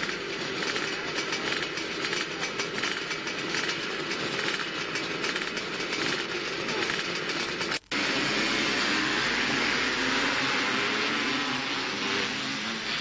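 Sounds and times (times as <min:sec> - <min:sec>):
motocross bike engines: 0:00.0 - 0:13.0.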